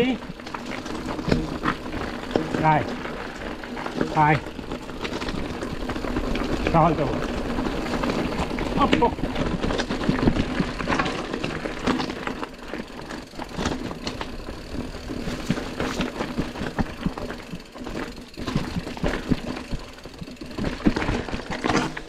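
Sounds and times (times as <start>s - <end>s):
bike knocking and rattling over stones: 0.0s - 22.0s.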